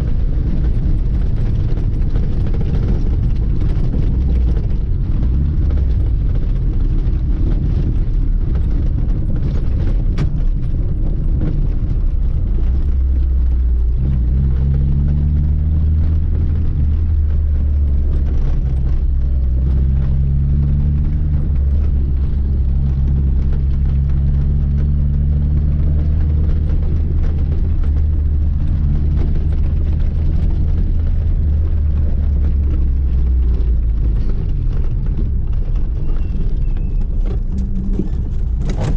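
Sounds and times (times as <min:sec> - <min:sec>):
car engine rumbling: 0:00.0 - 0:38.9.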